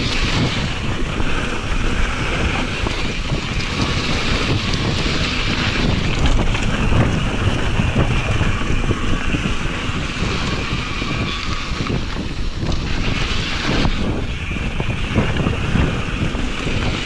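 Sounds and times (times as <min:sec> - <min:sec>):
bike rattling over bumps: 0:00.0 - 0:17.0
tyres running over dirt: 0:00.0 - 0:17.0
wind rushing over microphone: 0:00.0 - 0:17.0.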